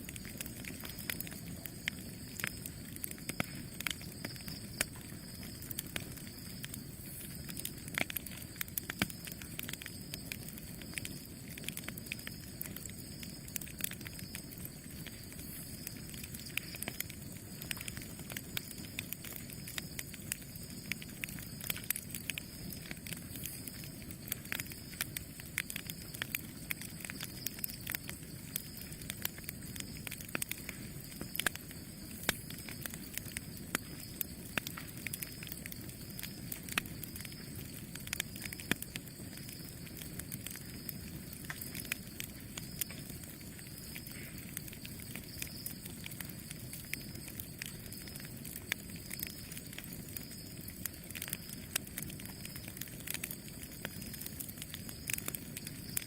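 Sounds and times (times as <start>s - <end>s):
burning wood crackling and popping: 0.0s - 56.0s
campfire flames rushing: 0.0s - 56.0s.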